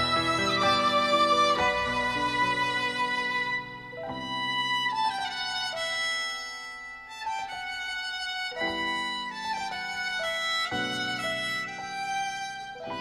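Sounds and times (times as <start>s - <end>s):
slow violin melody: 0.0s - 13.0s.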